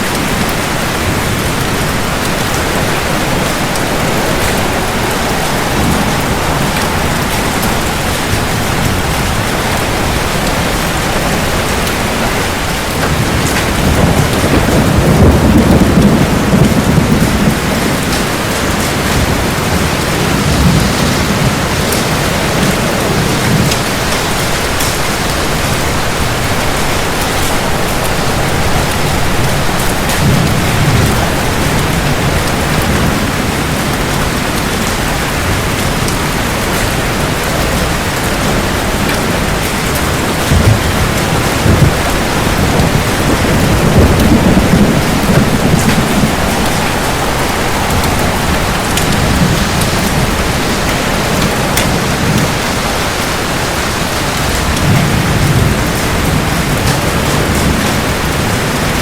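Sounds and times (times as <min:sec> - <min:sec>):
deep thunder rumbling: 0:00.0 - 0:59.0
heavy rain on hard surfaces: 0:00.0 - 0:59.0.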